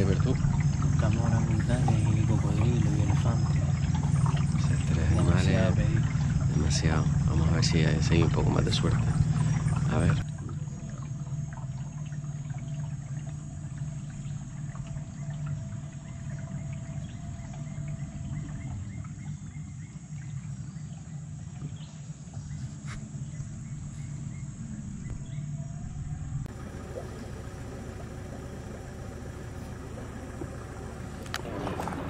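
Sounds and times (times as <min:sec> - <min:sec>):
faint insect calls: 0:00.0 - 0:32.0
outboard motor running: 0:00.0 - 0:32.0.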